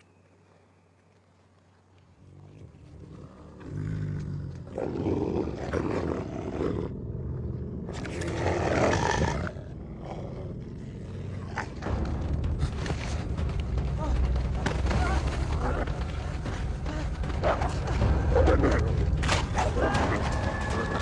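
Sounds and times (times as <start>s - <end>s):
wolves snarling and roaring: 2.2s - 13.9s, 14.8s - 21.0s.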